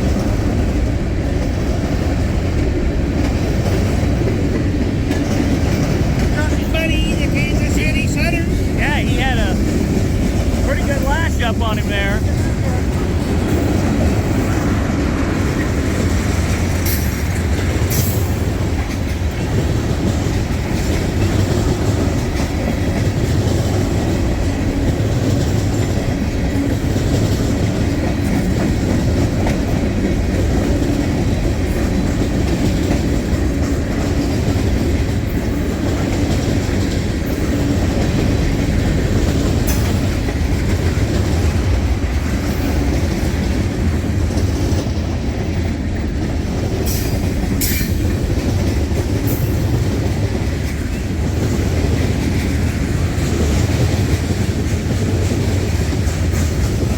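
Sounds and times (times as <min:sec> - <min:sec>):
wheels clicking over rail joints: 0:00.0 - 0:07.2, 0:12.3 - 0:56.9
freight train rumbling past: 0:00.0 - 0:56.9.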